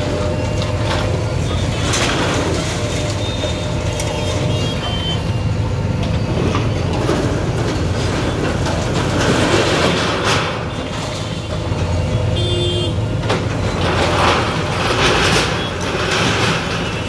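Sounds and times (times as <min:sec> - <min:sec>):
diesel engine running under load: 0:00.0 - 0:17.0
falling brick and debris clatter: 0:00.7 - 0:05.1, 0:06.4 - 0:12.0, 0:13.2 - 0:17.0.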